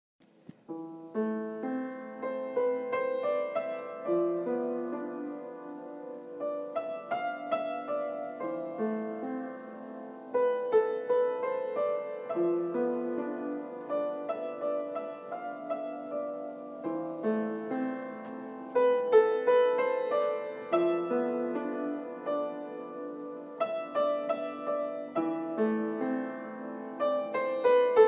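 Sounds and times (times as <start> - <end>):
slow piano music: 0.2 - 28.0.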